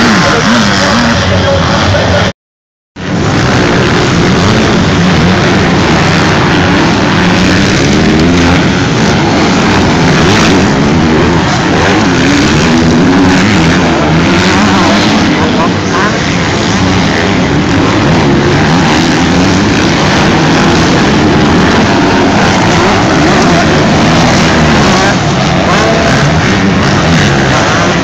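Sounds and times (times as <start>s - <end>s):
motocross bike engines revving: 0.0s - 2.3s, 3.0s - 28.0s.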